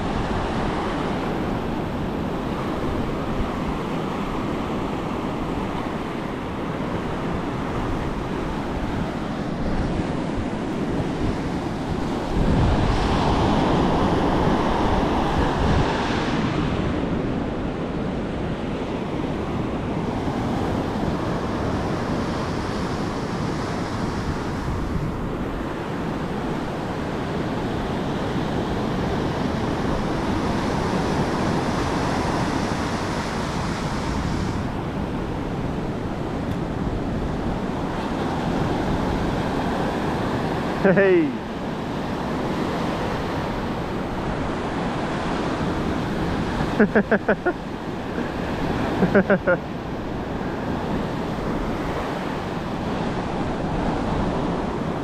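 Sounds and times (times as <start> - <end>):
ocean surf breaking on beach: 0.0 - 55.0
wind on microphone: 0.0 - 55.0.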